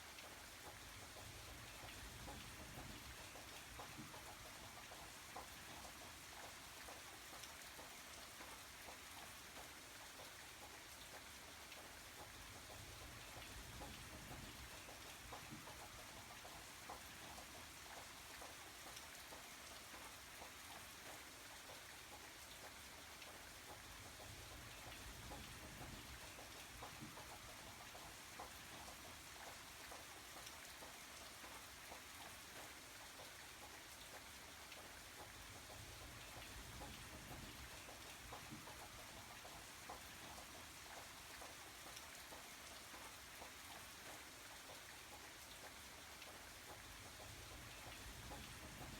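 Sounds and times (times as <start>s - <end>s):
rain pattering on a surface: 0.0s - 48.9s.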